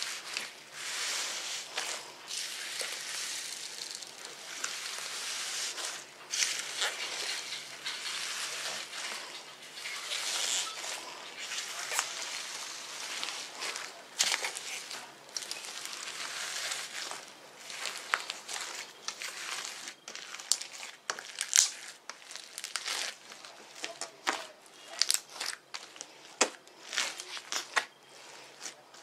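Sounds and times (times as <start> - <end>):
slime crunching and crackling: 0.0 - 29.0.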